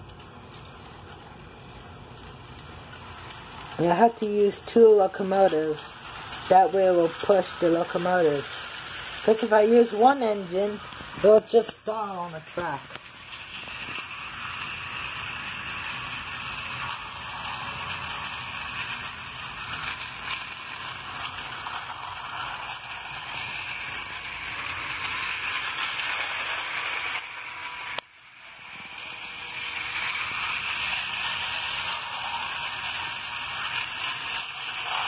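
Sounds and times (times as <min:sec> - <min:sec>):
model train whirring rattle: 0:00.0 - 0:35.0.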